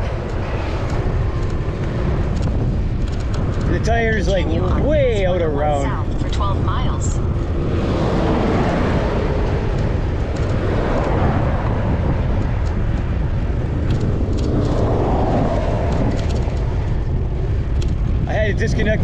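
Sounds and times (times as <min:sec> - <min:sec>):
cars and trucks passing: 0:00.0 - 0:19.0
wind buffeting microphone: 0:00.0 - 0:19.0.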